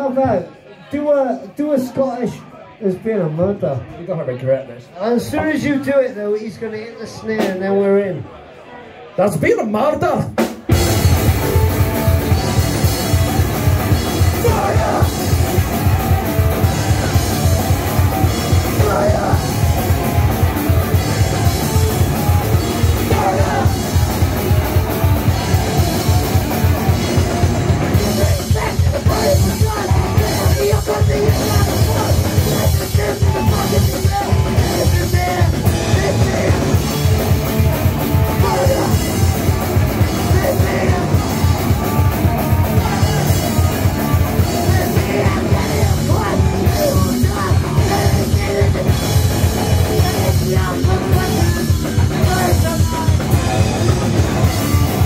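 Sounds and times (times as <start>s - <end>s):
punk rock band playing live: 7.1s - 8.0s, 9.3s - 55.0s
drum kit fast beat: 10.1s - 55.0s.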